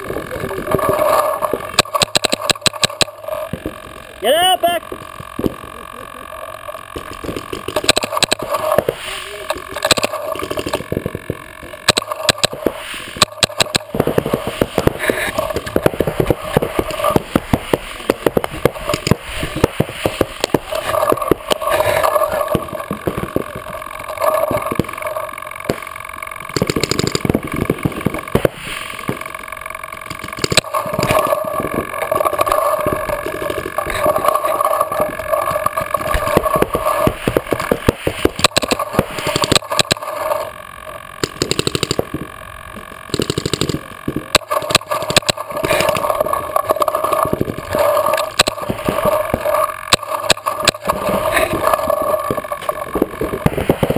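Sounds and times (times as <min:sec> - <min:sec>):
steady hum: 0:00.0 - 0:53.9
paintball markers firing: 0:00.8 - 0:03.7, 0:07.0 - 0:09.0, 0:09.7 - 0:23.7, 0:26.5 - 0:29.2, 0:30.0 - 0:40.1, 0:41.2 - 0:42.3, 0:43.1 - 0:53.9.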